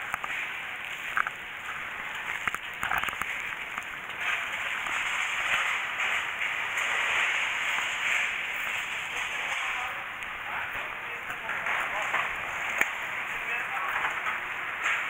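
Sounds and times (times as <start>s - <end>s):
plastic rustling and crinkling: 0.0s - 15.0s.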